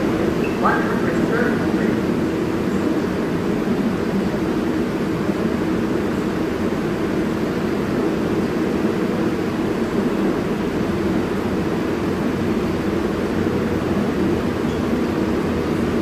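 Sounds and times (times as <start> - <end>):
subway car rumbling through tunnel: 0.0 - 16.0.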